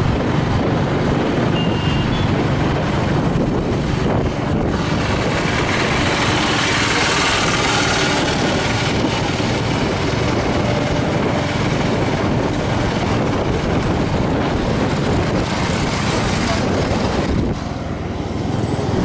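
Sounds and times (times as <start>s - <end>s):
engine hum: 0.0s - 19.0s
road noise: 0.0s - 19.0s
wind rush: 0.0s - 19.0s.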